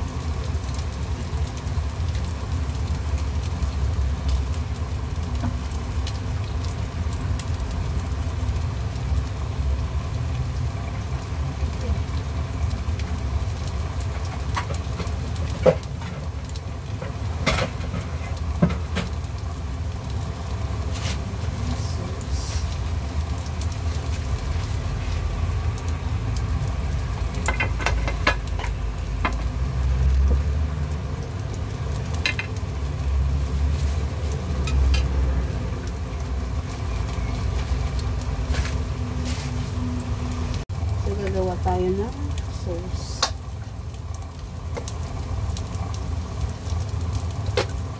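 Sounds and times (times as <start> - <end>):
patties sizzling in hot oil: 0.0 - 47.9.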